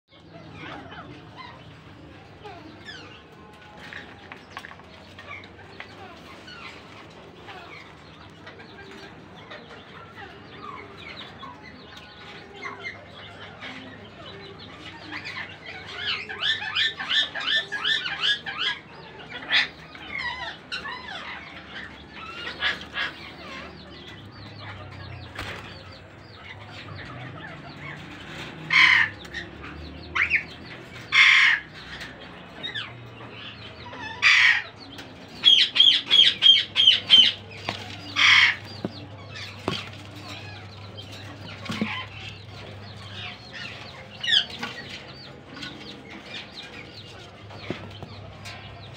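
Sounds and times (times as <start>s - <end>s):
parakeets chattering and screeching: 0.1s - 48.9s.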